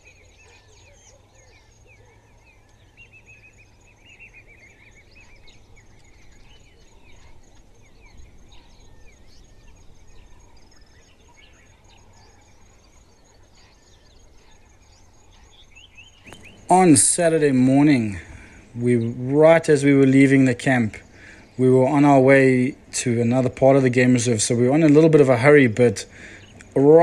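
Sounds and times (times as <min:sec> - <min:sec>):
birds chirping and whistling: 0:00.0 - 0:27.0.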